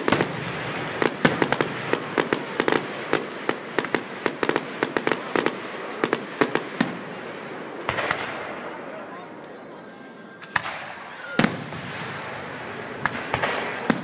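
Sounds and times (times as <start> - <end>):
fireworks bangs and pops: 0.0 - 8.8, 10.4 - 14.0
fireworks crackling: 0.0 - 14.0.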